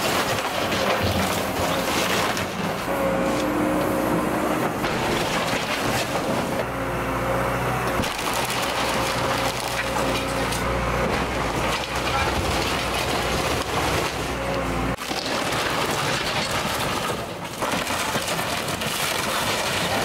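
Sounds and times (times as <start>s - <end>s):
wood splintering and cracking: 0.0s - 6.7s, 7.7s - 20.0s
excavator engine and hydraulics: 0.0s - 17.6s.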